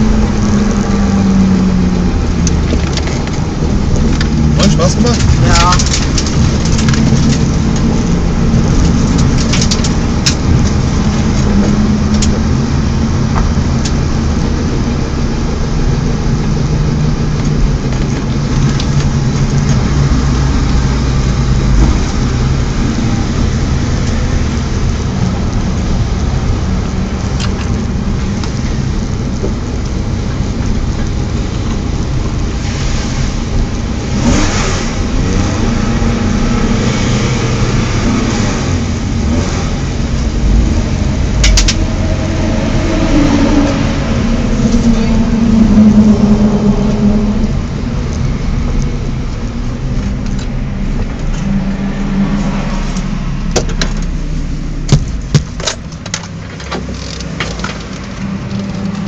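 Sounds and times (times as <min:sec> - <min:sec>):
car engine revving hard: 0:00.0 - 0:55.6.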